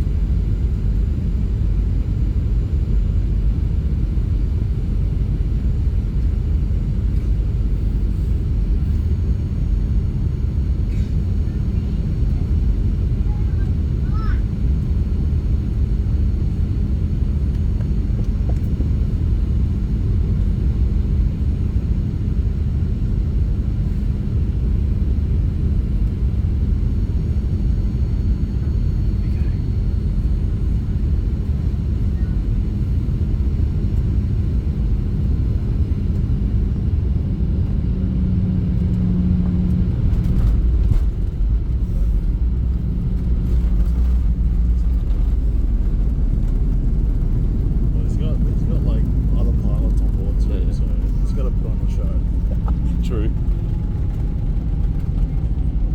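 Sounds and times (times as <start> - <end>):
aircraft engines and airflow rumble: 0.0 - 55.9
steady cabin hum: 0.0 - 55.9.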